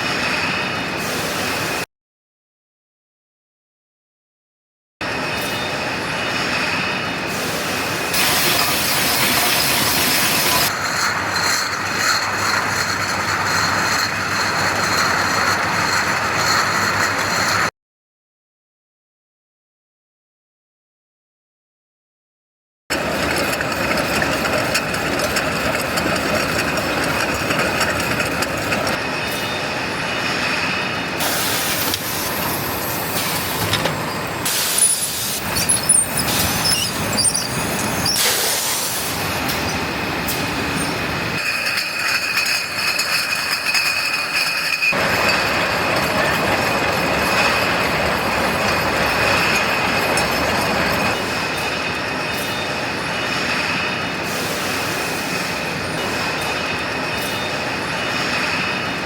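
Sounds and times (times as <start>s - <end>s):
bottling machinery clatter and hiss: 0.0s - 1.8s, 5.0s - 17.7s, 22.9s - 59.0s
high machine whine: 5.0s - 17.7s, 22.9s - 59.0s.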